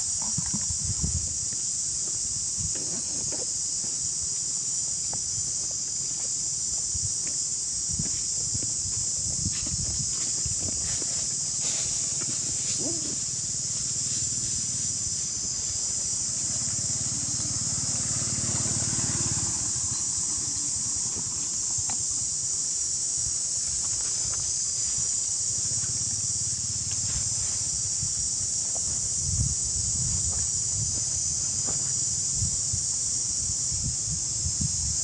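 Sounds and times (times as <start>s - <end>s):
insect chorus hiss: 0.0s - 35.0s.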